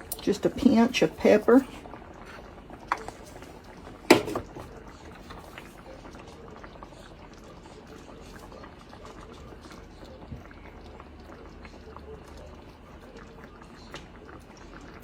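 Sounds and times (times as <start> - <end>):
gravy bubbling in a skillet: 0.0 - 15.0.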